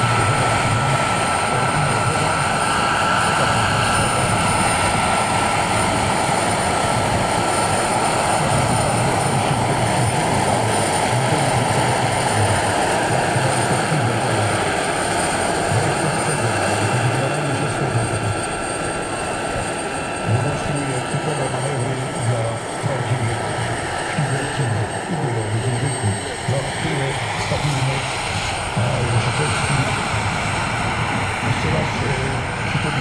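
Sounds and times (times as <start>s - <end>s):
model helicopter turbine whine: 0.0s - 33.0s.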